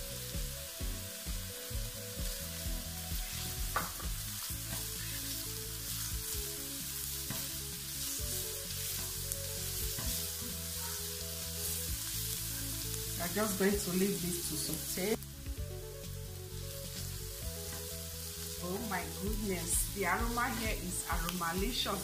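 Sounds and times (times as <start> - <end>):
onion sizzling in hot oil: 0.0 - 22.0.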